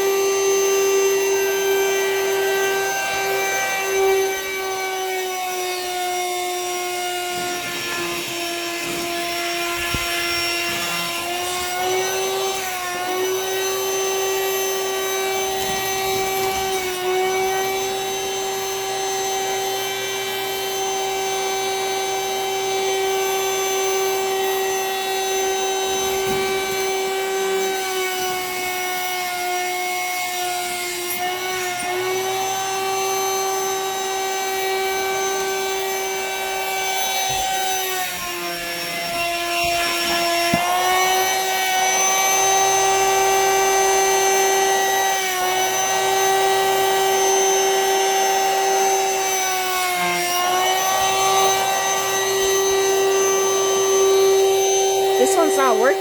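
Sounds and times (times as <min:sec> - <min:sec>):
vacuum motor whining: 0:00.0 - 0:56.0.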